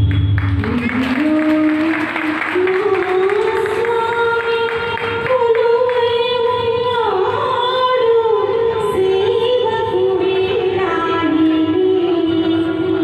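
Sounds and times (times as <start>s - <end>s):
woman singing through pa system: 0.5s - 13.0s.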